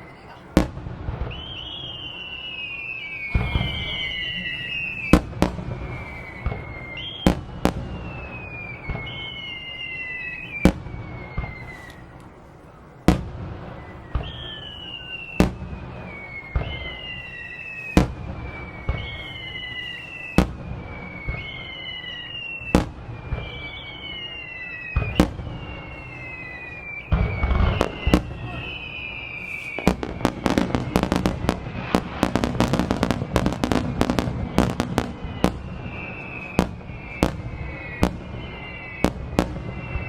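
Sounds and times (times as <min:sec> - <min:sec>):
falling firework whistle: 0:00.0 - 0:40.0
fireworks bursting with sharp bangs: 0:00.0 - 0:40.0.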